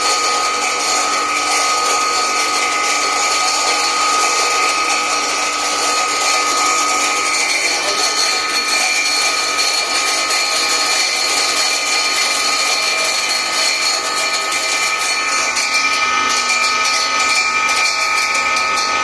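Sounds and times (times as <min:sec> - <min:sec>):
corn grinding machine: 0:00.0 - 0:19.0.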